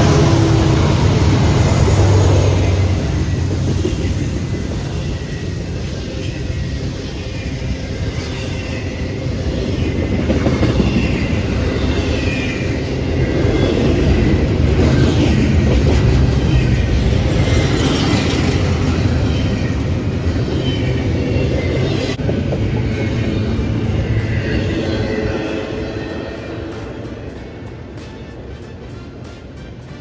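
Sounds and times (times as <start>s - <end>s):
train wheels rolling on rails: 0.0s - 30.0s.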